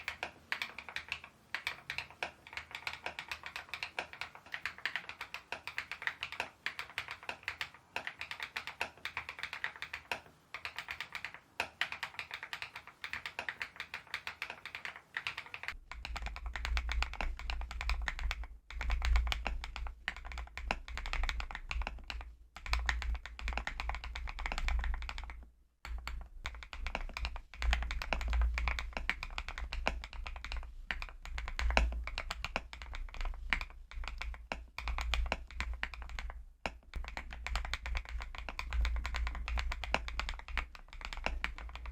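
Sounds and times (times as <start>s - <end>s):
mechanical keyboard typing: 0.0s - 41.9s.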